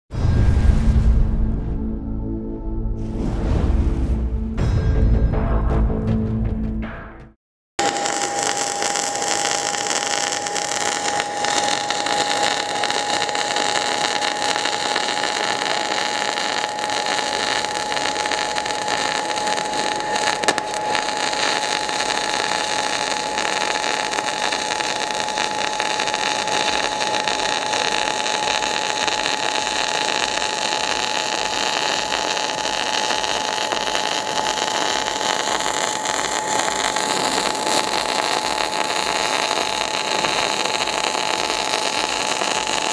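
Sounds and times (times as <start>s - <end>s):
welding arc hissing: 7.8s - 42.9s.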